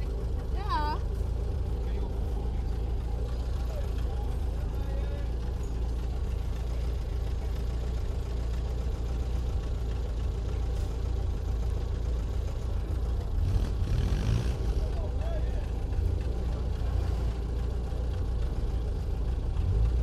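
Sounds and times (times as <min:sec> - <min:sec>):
petrol engine idling: 0:00.0 - 0:20.0.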